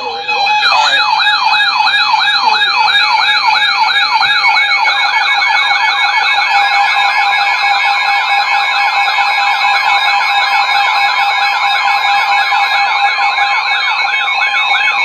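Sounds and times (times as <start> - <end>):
steady high beep: 0.0 - 15.0
warbling alert sirens: 0.0 - 15.0.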